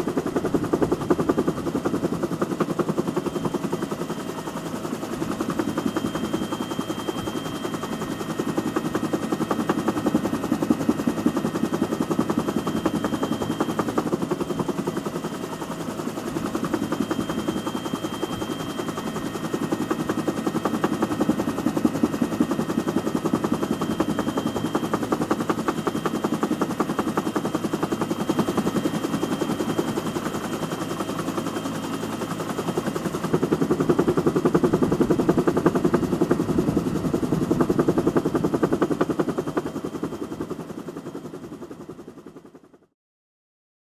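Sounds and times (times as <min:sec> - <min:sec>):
helicopter engine noise: 0:00.0 - 0:42.9.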